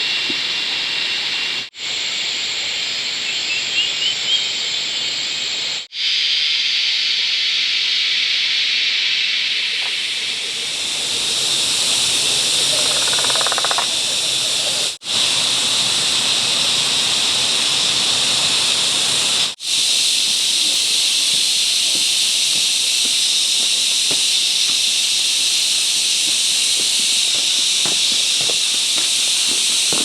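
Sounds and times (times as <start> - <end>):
cicada chorus drone: 0.0 - 30.0.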